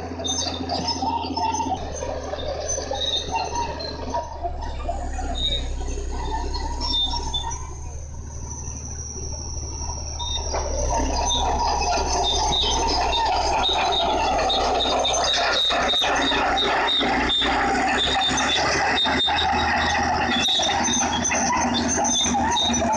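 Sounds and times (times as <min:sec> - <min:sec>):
bulldozer engine running: 0:00.0 - 0:22.9
crawler track squeaks: 0:00.0 - 0:22.9.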